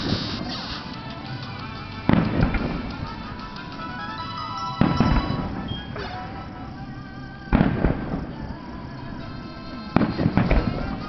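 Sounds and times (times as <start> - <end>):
fireworks booming: 0.0 - 11.0
music playing: 0.0 - 11.0.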